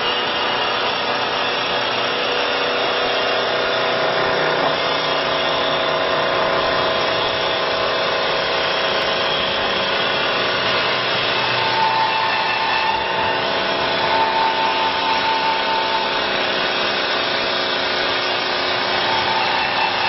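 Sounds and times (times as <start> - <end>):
lathe cutter hissing: 0.0 - 20.0
motor whine: 0.0 - 20.0.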